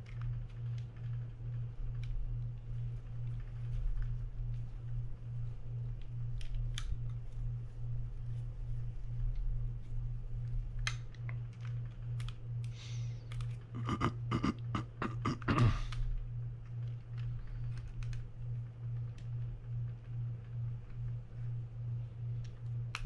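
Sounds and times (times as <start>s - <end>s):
pulsing low hum: 0.0s - 23.0s.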